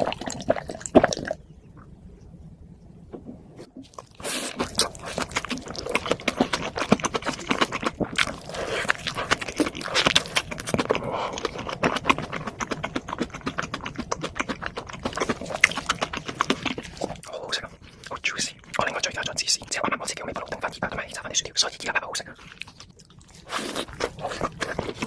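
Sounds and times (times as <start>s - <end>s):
crunchy chewing and biting: 0.0s - 1.4s, 3.8s - 21.3s, 21.9s - 25.0s.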